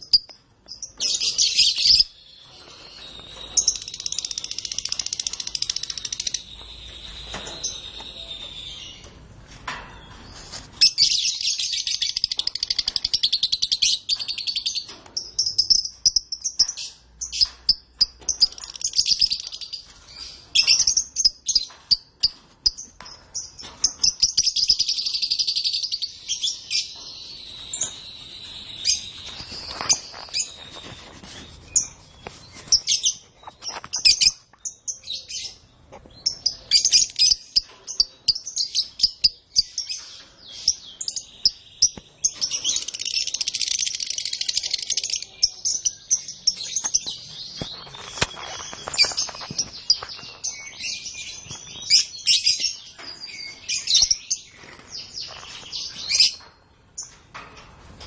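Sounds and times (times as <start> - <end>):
canary singing trills: 0.0 - 9.2, 10.0 - 57.2.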